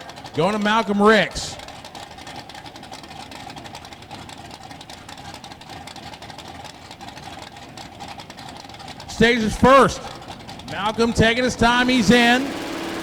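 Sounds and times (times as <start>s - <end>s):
racing car engines idling: 0.0s - 13.0s.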